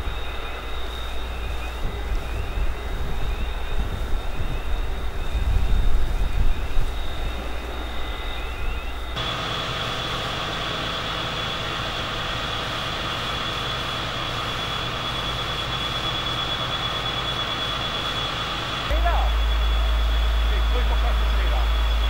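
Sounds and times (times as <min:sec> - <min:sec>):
engine running with high whine: 0:00.0 - 0:22.0
gusty wind rumble: 0:00.0 - 0:22.0.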